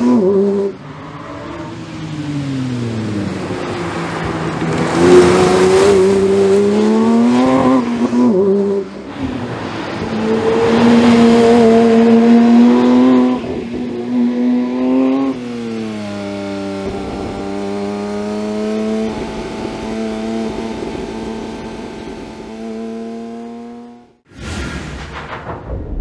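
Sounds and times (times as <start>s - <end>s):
car engine at high revs: 0.0s - 24.3s.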